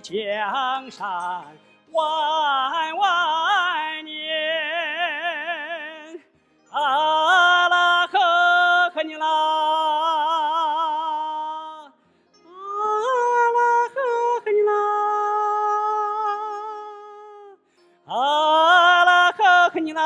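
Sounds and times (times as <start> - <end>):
man singing long notes with vibrato: 0.0 - 20.0.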